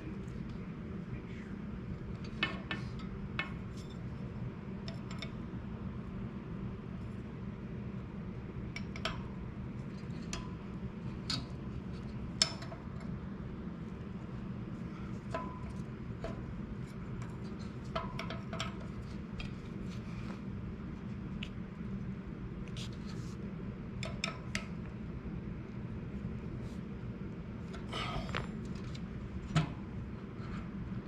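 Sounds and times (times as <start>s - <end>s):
low background hum: 0.0s - 31.0s.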